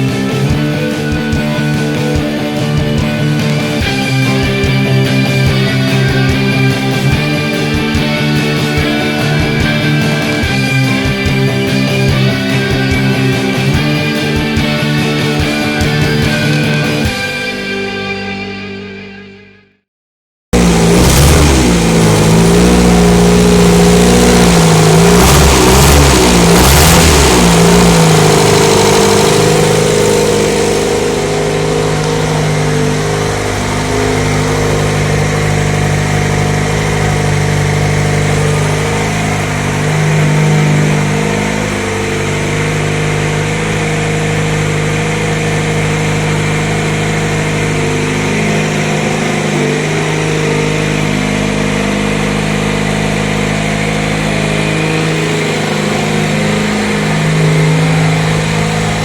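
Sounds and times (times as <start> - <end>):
van engine running: 0.0 - 19.0, 20.5 - 59.0.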